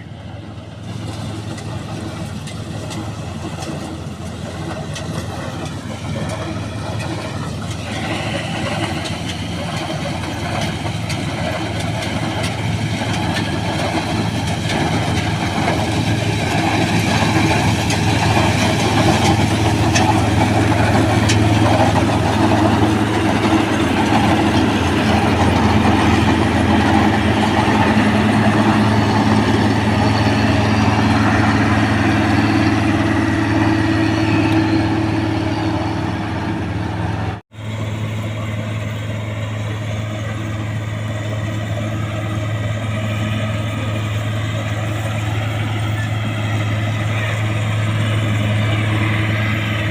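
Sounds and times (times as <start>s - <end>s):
combine harvester engine hum: 0.0s - 49.9s.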